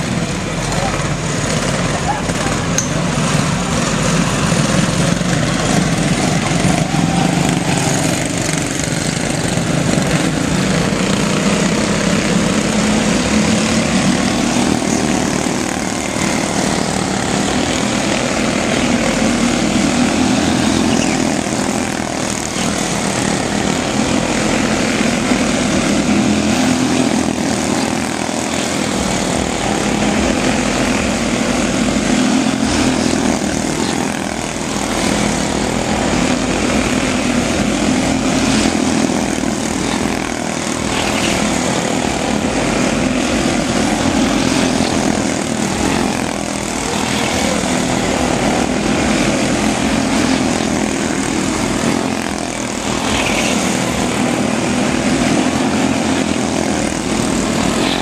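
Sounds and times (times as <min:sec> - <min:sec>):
small race car engines buzzing: 0:00.0 - 0:58.0.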